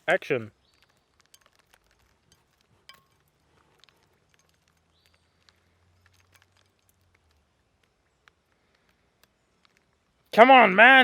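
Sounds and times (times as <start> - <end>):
small clicks and ticks: 0.0 - 10.4.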